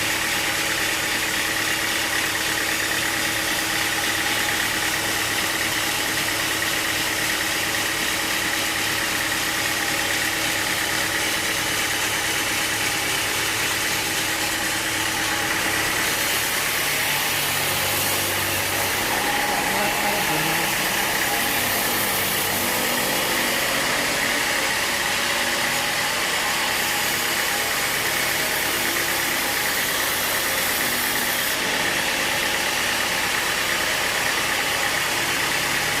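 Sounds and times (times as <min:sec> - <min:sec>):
sawmill machinery humming: 0:00.0 - 0:36.0.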